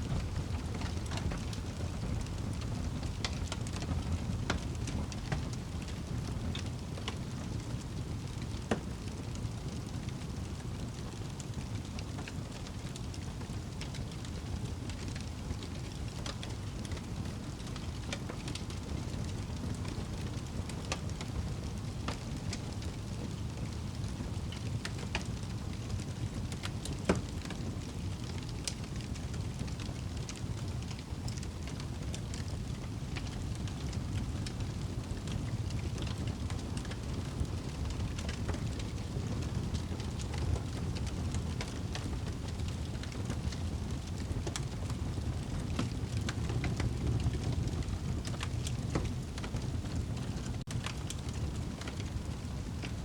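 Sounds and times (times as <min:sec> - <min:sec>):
wood fire burning: 0:00.0 - 0:53.0.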